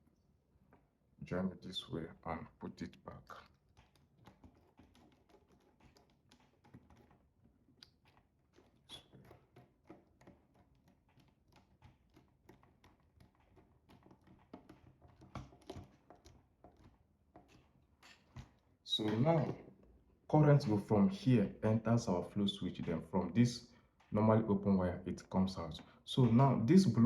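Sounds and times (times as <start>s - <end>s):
electrical wires clicking and tapping: 1.7s - 27.0s.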